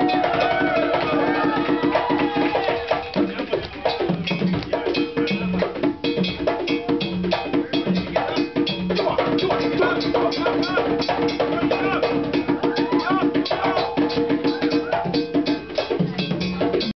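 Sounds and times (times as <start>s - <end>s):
drum ensemble playing fast rhythm: 0.0s - 16.9s
wood-block-like percussion clacking: 0.0s - 16.9s.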